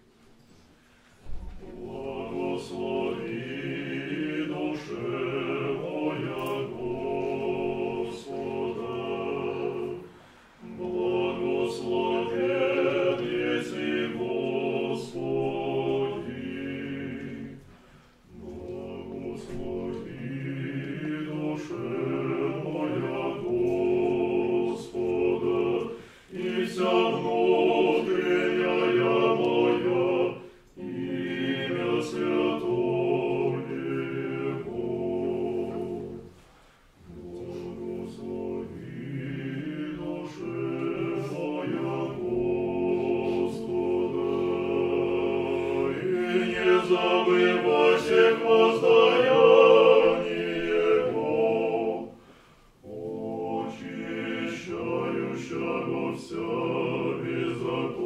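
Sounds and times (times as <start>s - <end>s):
choir singing unaccompanied: 1.2s - 58.0s.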